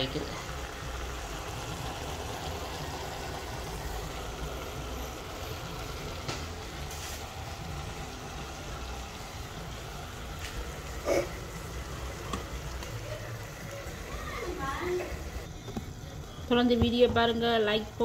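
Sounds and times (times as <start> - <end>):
vegetables cooking in a pan: 0.0 - 18.0.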